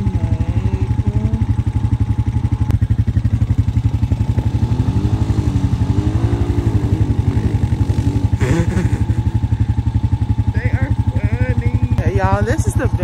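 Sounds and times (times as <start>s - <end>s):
atv engine idling: 0.0s - 13.0s
quad engine revving: 0.0s - 13.0s.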